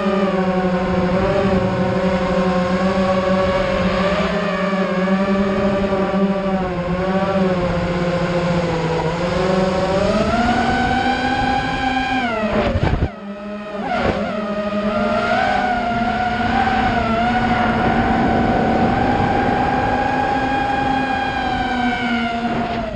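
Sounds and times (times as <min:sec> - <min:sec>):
quadcopter motors whining: 0:00.0 - 0:22.9.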